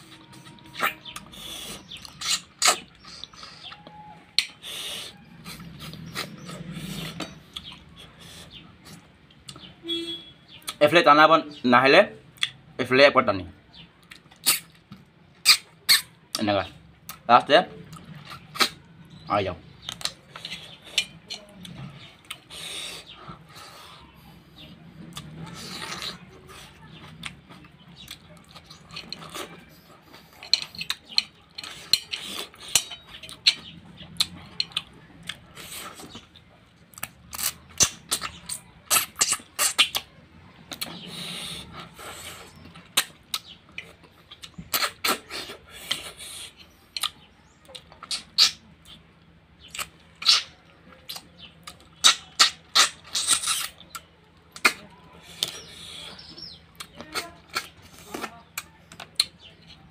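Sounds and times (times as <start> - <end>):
lip smacks: 0.0 - 9.7, 14.0 - 17.3, 17.9 - 18.9, 19.8 - 24.0, 24.6 - 49.0, 49.6 - 59.8
wet chewing: 0.0 - 9.7, 13.8 - 59.9.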